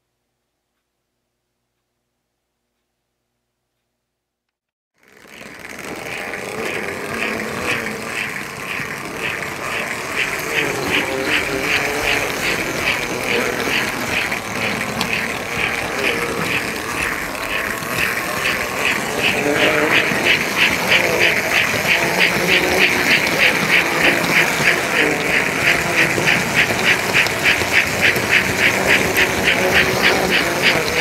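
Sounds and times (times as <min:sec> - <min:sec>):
toy train running rumble: 0:05.0 - 0:31.0
toy train wheels clicking: 0:05.0 - 0:31.0.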